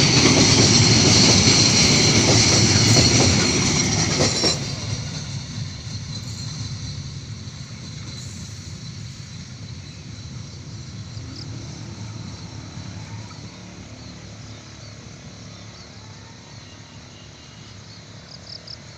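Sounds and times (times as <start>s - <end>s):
low rumble of slow train: 0.0s - 18.9s.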